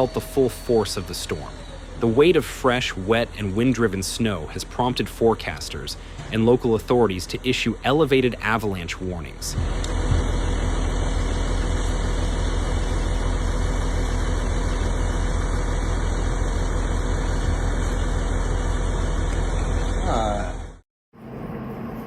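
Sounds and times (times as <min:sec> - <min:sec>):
heavy engine running: 0:00.0 - 0:22.0.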